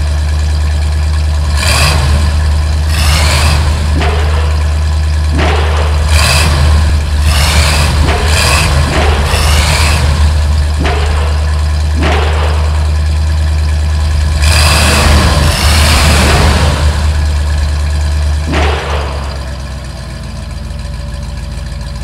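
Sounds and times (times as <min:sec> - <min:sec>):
cartoon racing car engine: 0:01.3 - 0:22.0.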